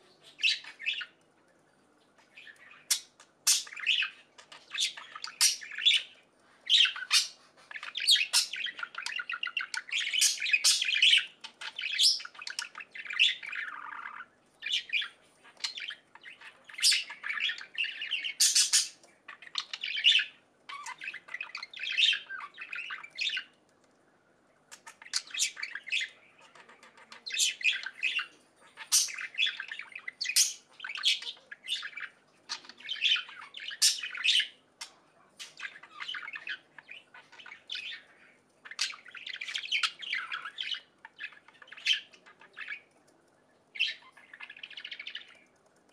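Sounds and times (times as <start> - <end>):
budgerigars chirping: 0.0 - 1.2, 2.3 - 23.5, 24.7 - 42.9, 43.8 - 45.4.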